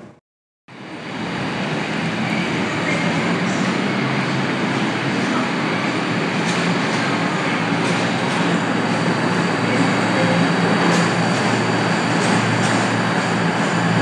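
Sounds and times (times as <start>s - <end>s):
train rumbling at platform: 0.0s - 14.0s.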